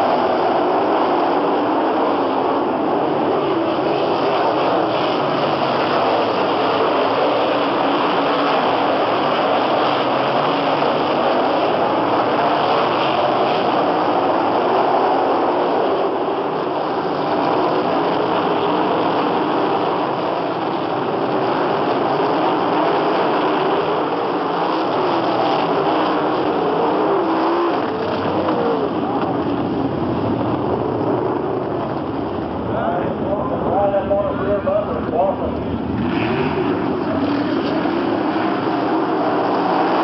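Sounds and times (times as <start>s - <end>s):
race car engines droning: 0.0s - 40.0s.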